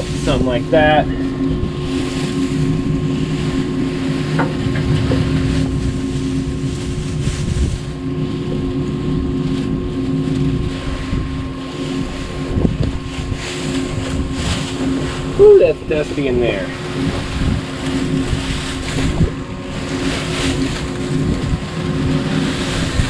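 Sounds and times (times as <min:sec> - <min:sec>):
wind on microphone: 0:01.1 - 0:23.0.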